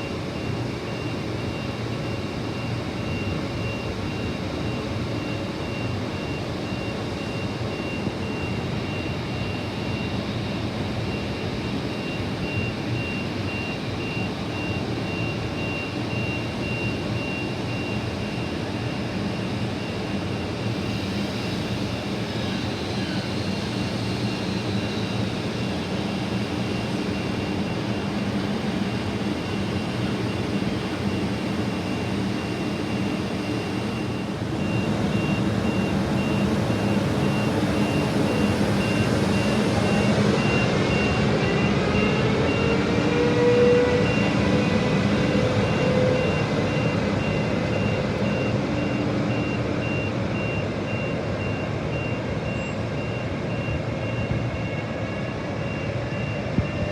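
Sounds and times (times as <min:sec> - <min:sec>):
high-pitched whine: 0:00.0 - 0:56.9
train low hum: 0:00.0 - 0:56.9.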